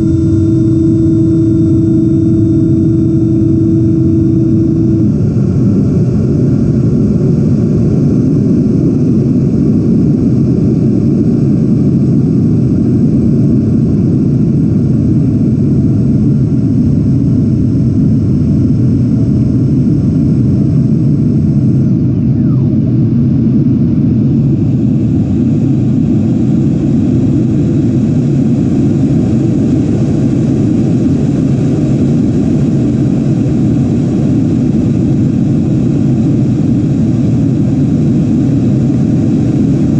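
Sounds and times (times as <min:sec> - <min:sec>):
model jet ducted fan whine: 0:00.0 - 0:39.9.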